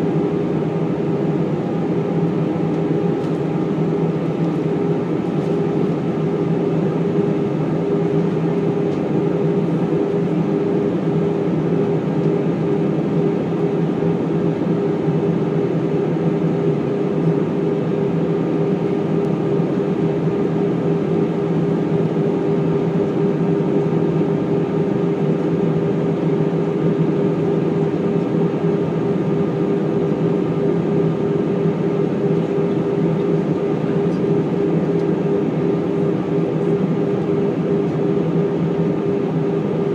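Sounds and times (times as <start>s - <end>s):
jet engines and airflow drone: 0.0s - 39.9s.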